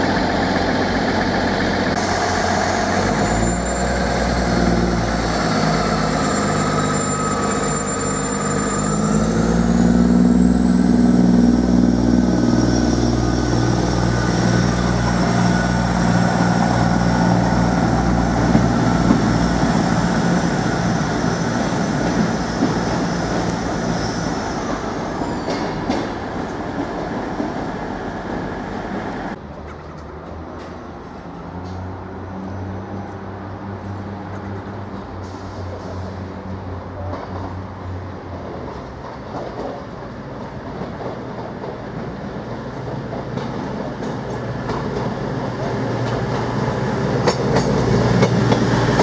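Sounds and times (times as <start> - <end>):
diesel train engines: 0.0 - 49.0
rumble of passing train: 0.0 - 49.0.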